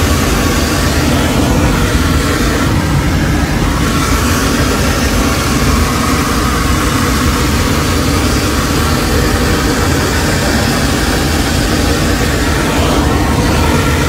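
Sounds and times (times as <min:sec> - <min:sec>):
aircraft cabin engine roar: 0:00.0 - 0:14.0
rushing air: 0:00.0 - 0:14.0.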